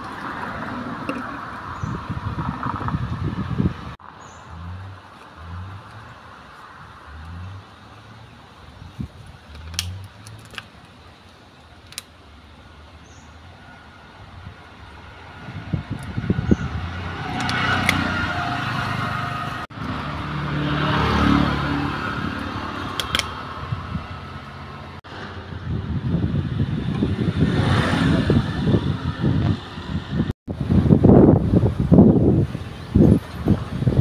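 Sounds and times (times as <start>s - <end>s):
vehicle engines passing: 0.0s - 34.0s.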